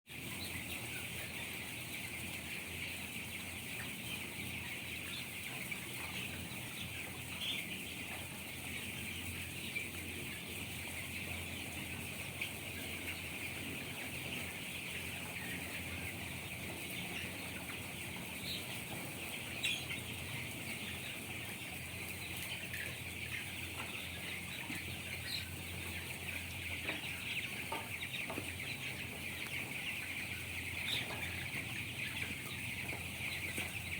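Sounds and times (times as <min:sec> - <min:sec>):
chickens peeping and clucking: 0:00.1 - 0:33.9.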